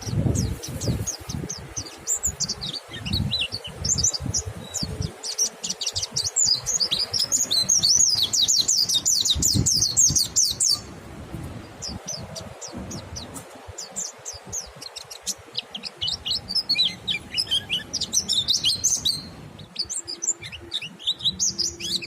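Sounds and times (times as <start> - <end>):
birds twittering song: 0.0 - 22.0.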